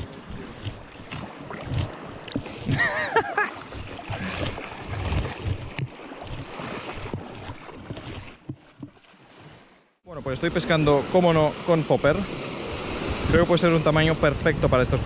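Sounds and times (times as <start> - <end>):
seawater sloshing and splashing: 0.0 - 14.0.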